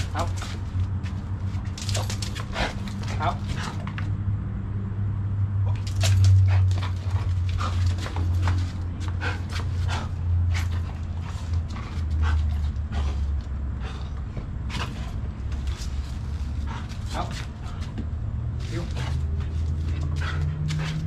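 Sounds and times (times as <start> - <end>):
dog paws clicking on concrete: 0.0 - 4.1, 5.7 - 21.0
flip-flops on concrete: 0.0 - 4.1, 5.7 - 21.0.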